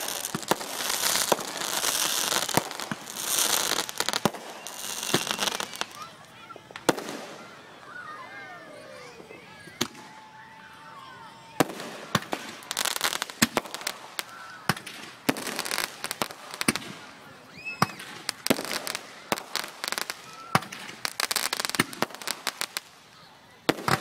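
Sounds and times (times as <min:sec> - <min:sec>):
fireworks bangs: 0:00.0 - 0:07.8, 0:08.9 - 0:10.3, 0:11.5 - 0:23.0, 0:23.7 - 0:24.0
fireworks crackling: 0:00.0 - 0:24.0.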